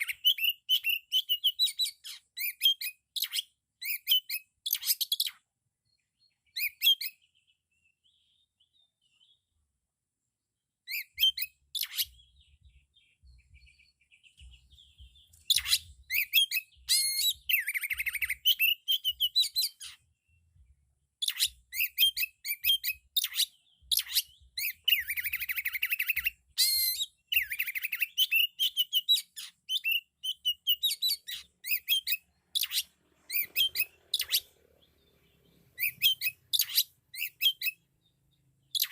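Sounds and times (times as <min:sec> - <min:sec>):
songbird whistling song: 0:00.0 - 0:09.7, 0:10.8 - 0:38.9.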